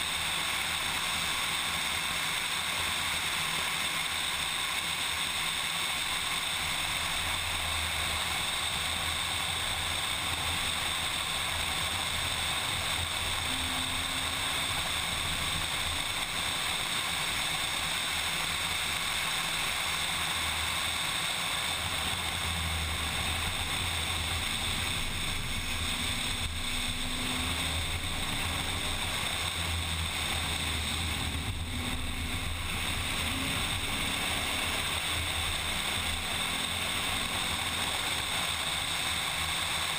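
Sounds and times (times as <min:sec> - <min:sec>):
car low rumble: 0:00.0 - 0:39.9.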